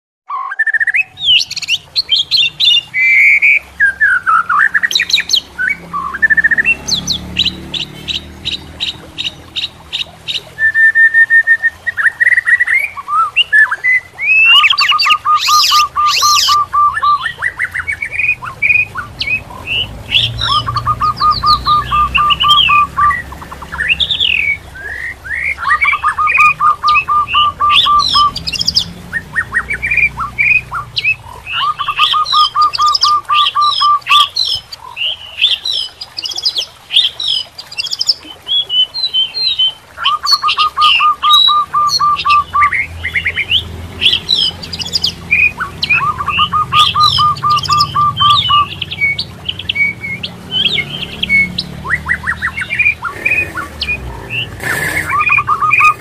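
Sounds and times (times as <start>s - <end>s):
fast bird trill: 0.3s - 56.0s
songbird singing: 0.3s - 56.0s.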